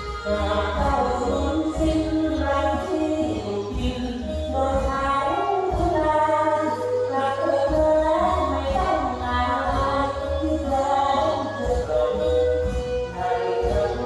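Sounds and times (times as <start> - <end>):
song with heavy bass over loudspeaker: 0.0 - 14.0.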